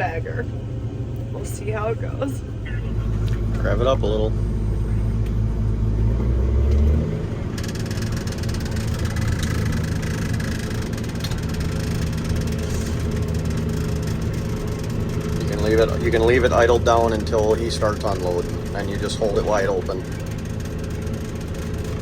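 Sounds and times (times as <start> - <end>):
diesel tractor engine revving: 0.0 - 22.0.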